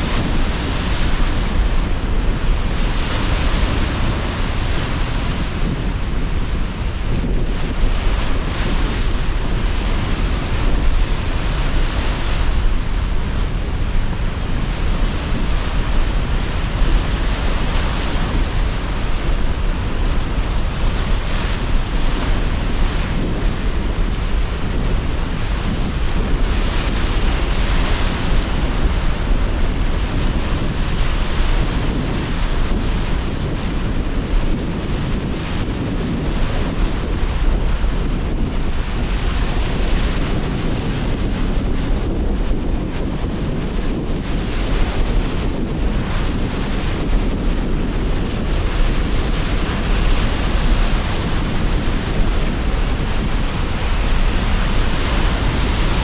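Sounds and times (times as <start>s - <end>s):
sea surf washing in: 0.0s - 56.0s
strong gusting wind: 0.0s - 56.0s
wind rumble on microphone: 0.0s - 56.0s.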